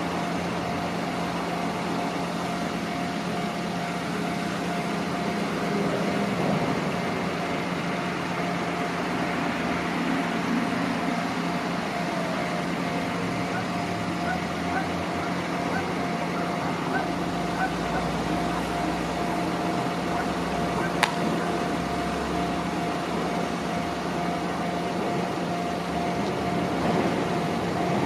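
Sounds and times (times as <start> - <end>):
vehicle running hum: 0.0 - 28.0.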